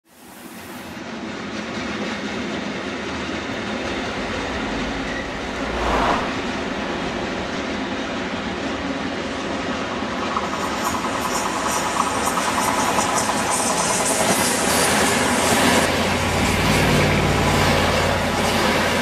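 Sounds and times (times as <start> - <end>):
train wheels rumbling on track: 0.5 - 19.0.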